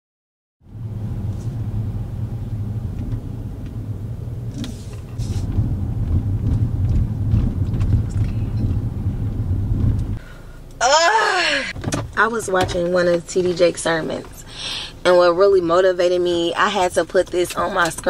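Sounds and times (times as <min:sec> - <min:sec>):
car cabin rumble: 0:00.7 - 0:18.0.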